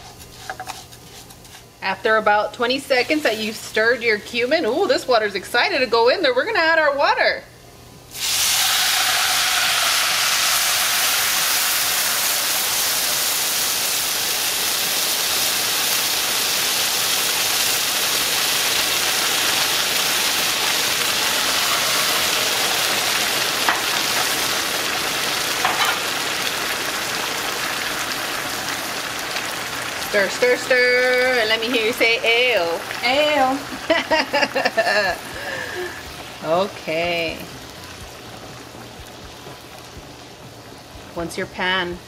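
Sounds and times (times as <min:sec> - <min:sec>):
water sizzling in hot skillet: 0:02.6 - 0:05.4, 0:08.1 - 0:42.0.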